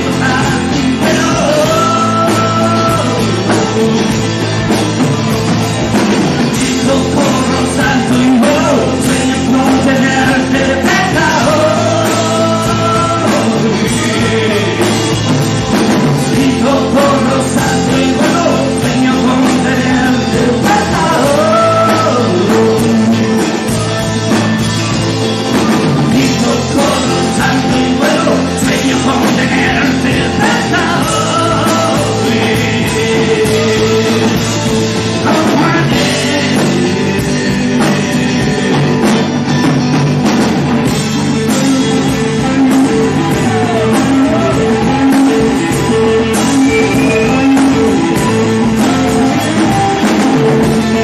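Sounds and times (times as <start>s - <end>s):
rock band with singing: 0.0s - 51.0s.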